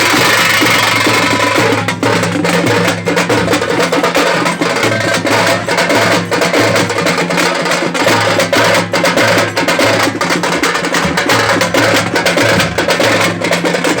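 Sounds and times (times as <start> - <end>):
frame drum fast rhythm: 0.0 - 14.0.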